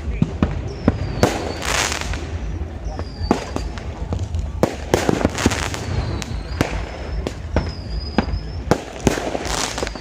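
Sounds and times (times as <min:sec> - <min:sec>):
fireworks bangs and pops: 0:00.0 - 0:10.0
fireworks whistling: 0:00.0 - 0:10.0.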